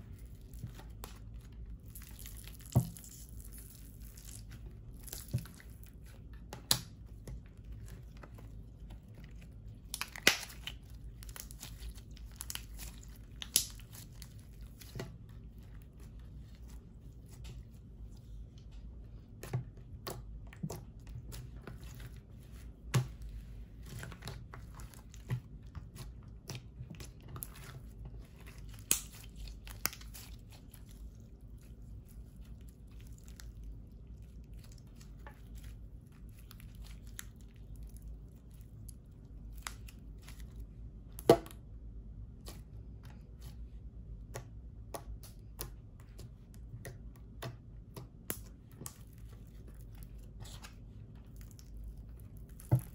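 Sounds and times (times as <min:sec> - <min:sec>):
slime squelching: 0:00.0 - 0:41.4, 0:42.2 - 0:52.9.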